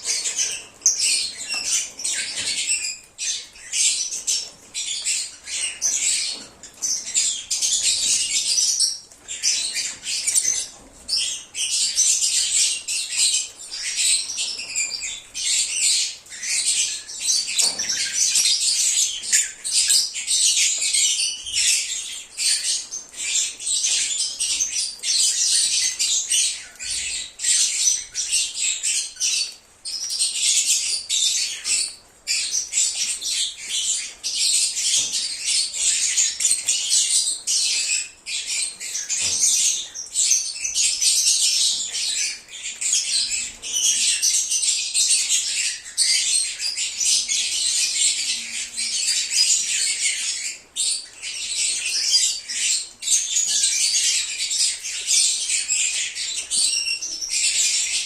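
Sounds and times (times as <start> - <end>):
birds chirping and squawking: 0.0 - 58.0.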